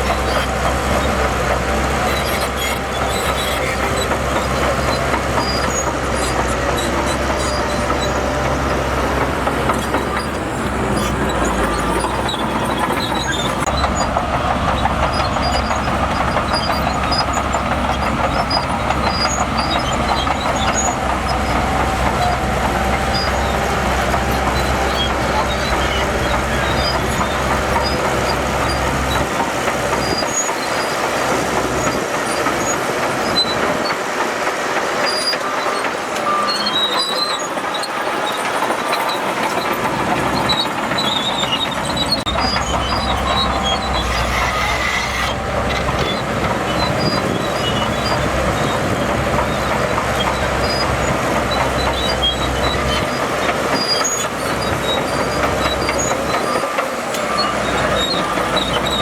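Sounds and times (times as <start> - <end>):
bulldozer diesel engine rumble: 0.0 - 59.0
steel tracks clanking and squeaking: 0.0 - 59.0.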